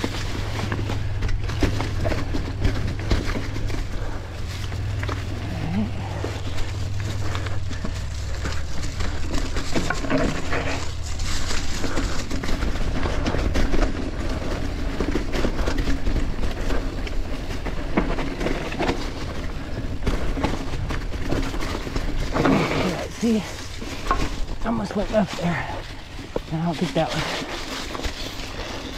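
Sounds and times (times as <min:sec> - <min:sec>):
low rumble: 0:00.0 - 0:24.7
bike rattling and clicking: 0:00.0 - 0:28.9
bike tyres rolling through leaves: 0:00.0 - 0:28.9.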